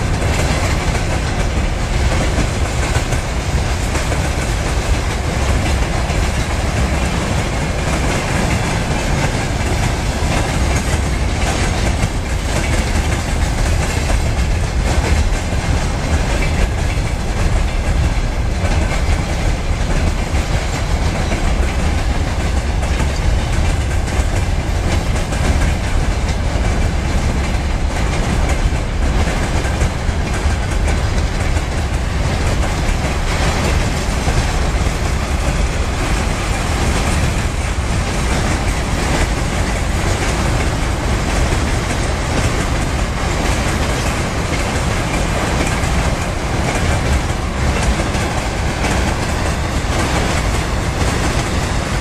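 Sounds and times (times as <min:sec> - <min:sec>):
freight train wheels clattering: 0:00.0 - 0:52.0.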